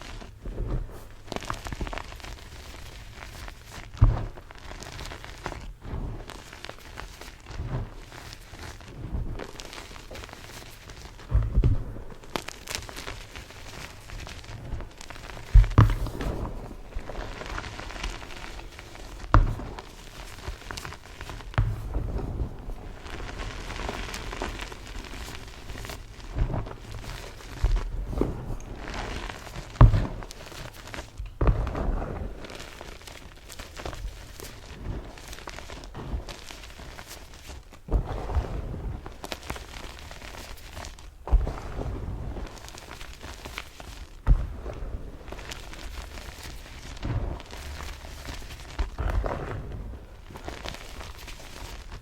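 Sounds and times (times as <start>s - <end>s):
chalk crunching and crumbling: 0.0s - 52.0s.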